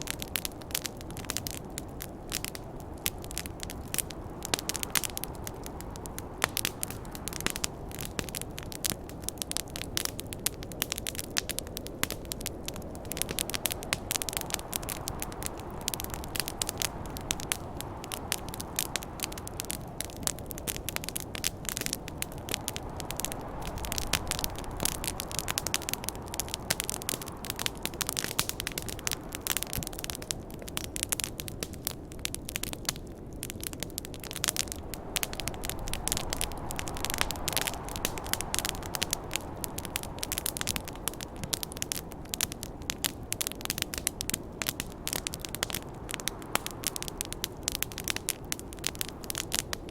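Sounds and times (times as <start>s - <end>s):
campfire crackling and popping: 0.0s - 49.9s
snowstorm wind rushing: 0.0s - 49.9s.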